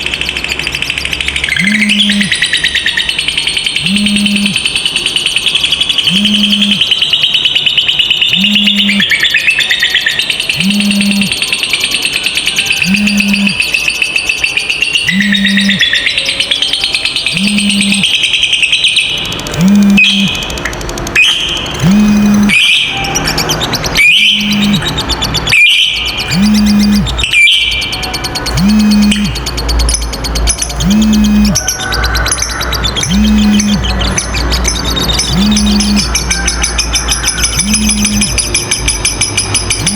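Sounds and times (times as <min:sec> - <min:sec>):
lovebird high chattering: 0:00.0 - 0:39.9.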